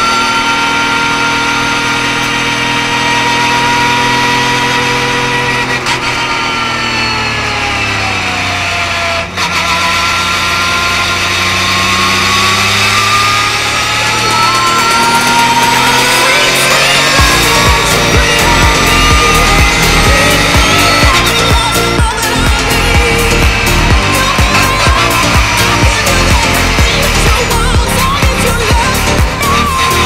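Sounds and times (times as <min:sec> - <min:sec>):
race car engine from cockpit: 0:00.0 - 0:30.0.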